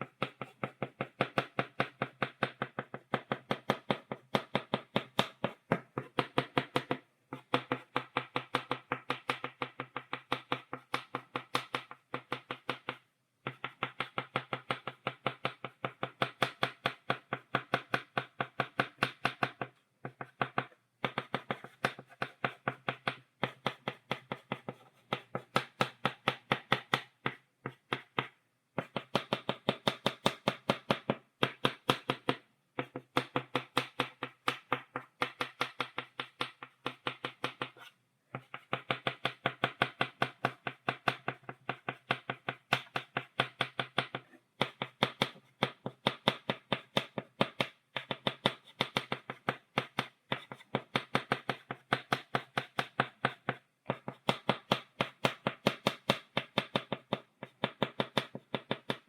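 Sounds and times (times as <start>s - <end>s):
chalk tapping on blackboard: 0.0s - 59.0s.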